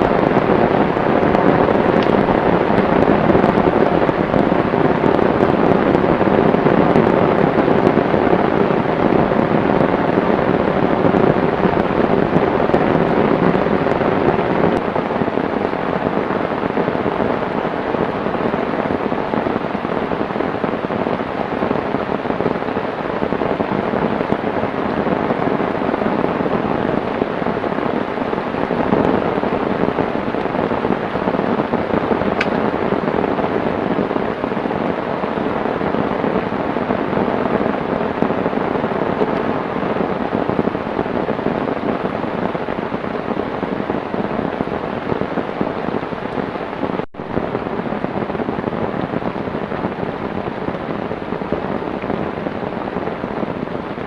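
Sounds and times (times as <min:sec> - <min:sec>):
heavy rain downpour: 0:00.0 - 0:54.0.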